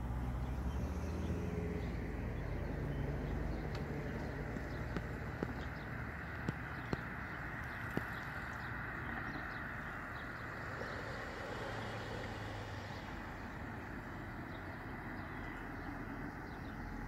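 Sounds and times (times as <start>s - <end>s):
low outdoor rushing noise: 0.0s - 17.0s.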